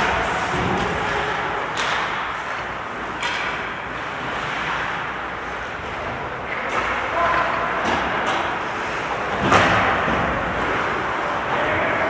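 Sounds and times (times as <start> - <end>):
distant hockey play: 0.0 - 12.0.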